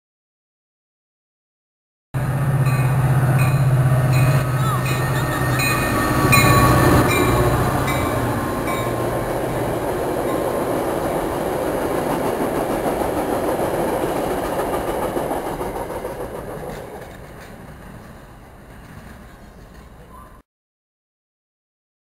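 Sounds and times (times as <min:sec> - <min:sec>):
train wheels rumbling on rail: 0:02.2 - 0:20.4.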